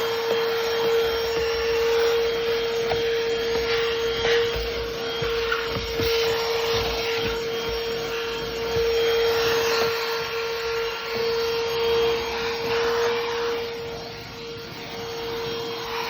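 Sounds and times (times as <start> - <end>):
handheld vacuum running: 0.0 - 16.0.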